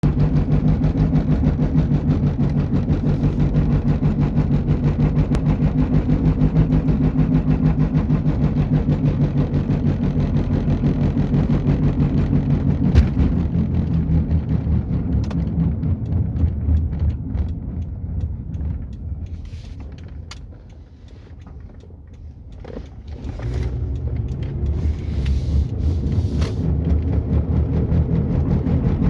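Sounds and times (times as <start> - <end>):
wheel bearing droning rumble: 0.0 - 29.0.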